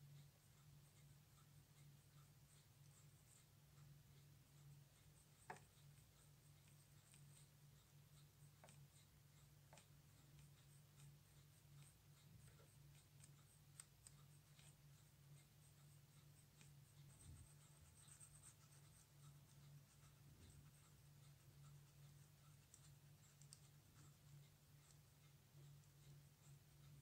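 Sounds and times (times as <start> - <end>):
brush scratching watch dial: 0.0 - 27.0
faint low hum: 0.0 - 27.0.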